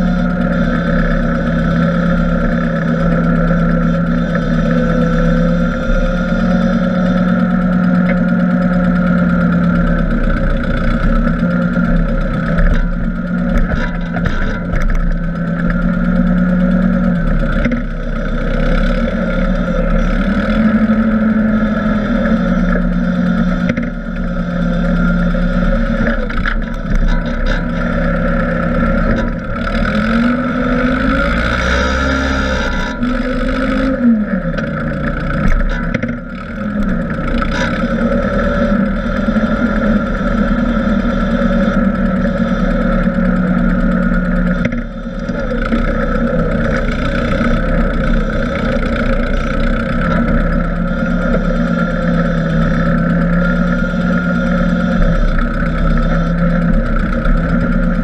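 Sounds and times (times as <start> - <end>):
tractor engine revving: 0.0 - 58.0.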